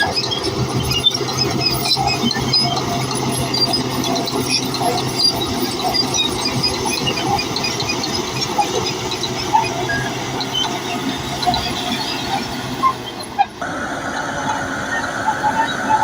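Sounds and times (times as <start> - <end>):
bulldozer diesel engine: 0.0 - 16.0
steel tracks squeaking: 0.0 - 16.0.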